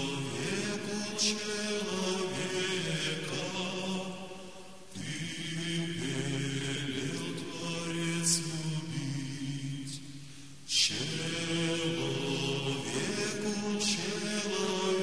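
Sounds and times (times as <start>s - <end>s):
low male church chant: 0.0s - 15.0s.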